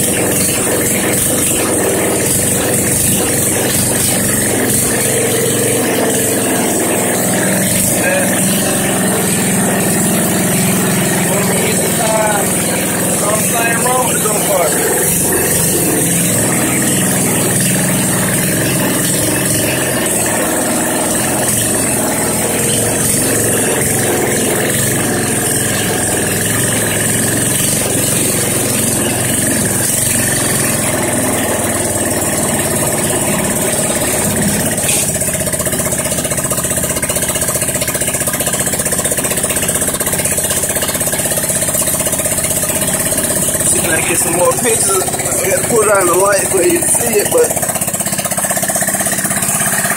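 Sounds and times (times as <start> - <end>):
go-kart engine running: 0.0 - 49.9.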